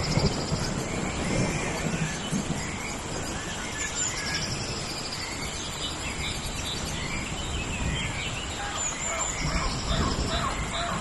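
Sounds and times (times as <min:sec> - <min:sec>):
bird chirps: 0:00.0 - 0:11.0
steady rain hissing: 0:00.0 - 0:11.0.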